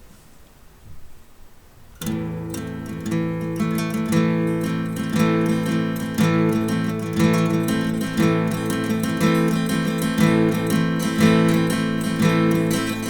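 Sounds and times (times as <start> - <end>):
acoustic guitar strumming: 2.0 - 13.0.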